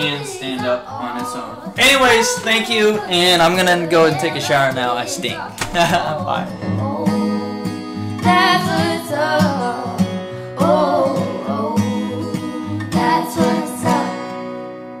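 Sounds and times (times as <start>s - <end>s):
person singing: 0.0s - 14.6s
song with plucked strings: 0.0s - 15.0s.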